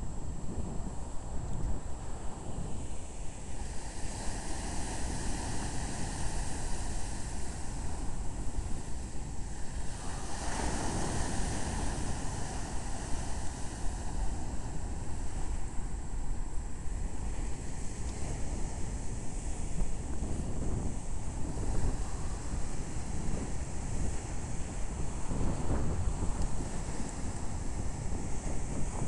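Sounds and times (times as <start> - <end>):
wind buffeting microphone: 0.0 - 29.0
waves washing on shore: 2.0 - 29.0.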